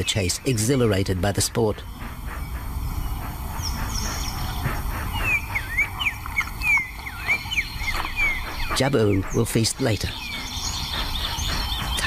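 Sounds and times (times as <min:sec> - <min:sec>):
birds chirping: 0:00.0 - 0:12.0
low steady rumble: 0:00.4 - 0:12.0.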